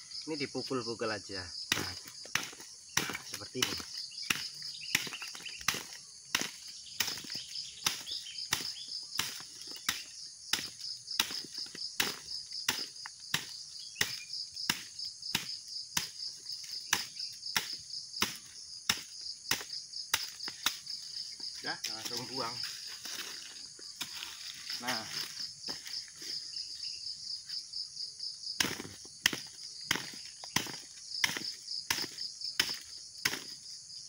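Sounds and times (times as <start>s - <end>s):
insects trilling: 0.0s - 34.0s
stick striking fruit bunch: 1.5s - 26.6s, 28.5s - 33.8s.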